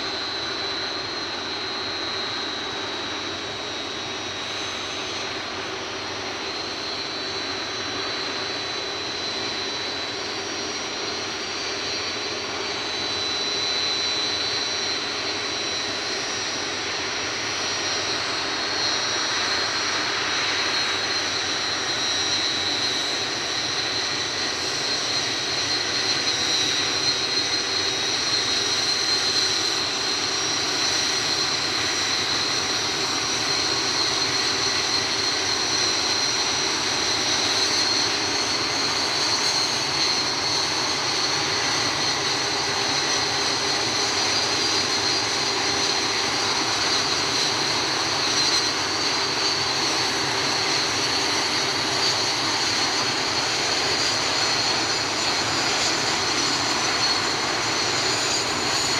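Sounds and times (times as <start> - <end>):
jet engines high-pitched whine: 0.0 - 58.9.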